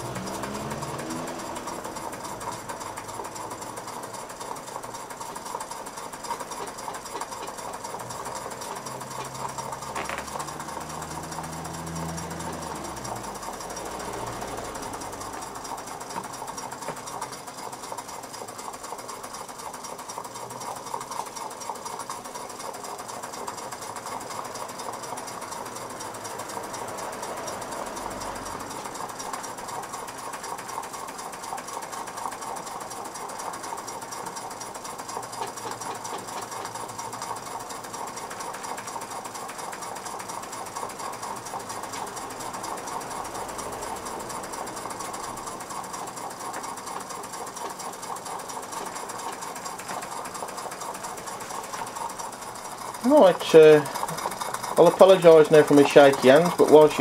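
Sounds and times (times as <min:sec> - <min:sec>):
model steam engine running: 0:00.0 - 0:57.0.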